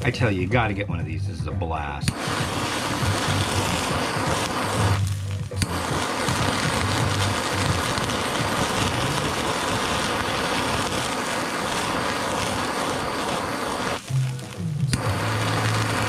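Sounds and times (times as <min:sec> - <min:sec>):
kitchen torch flame hissing: 0:00.0 - 0:00.7, 0:02.0 - 0:16.0.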